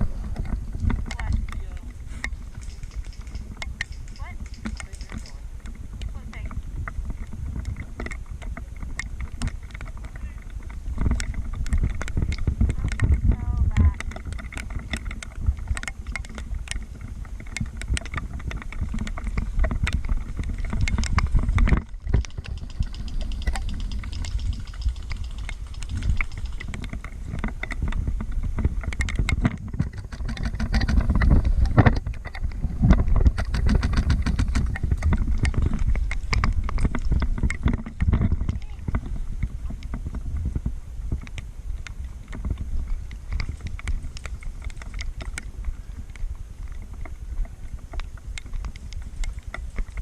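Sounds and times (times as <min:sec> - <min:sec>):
sharp ticks and clicks: 0:00.0 - 0:50.0
wind rumble: 0:00.0 - 0:50.0.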